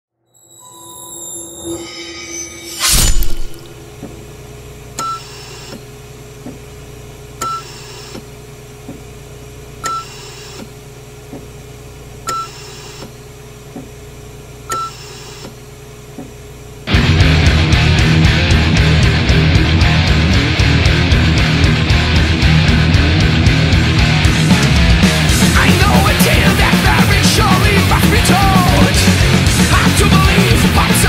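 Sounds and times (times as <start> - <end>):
low electronic hum: 0.7 - 14.7, 15.6 - 31.0.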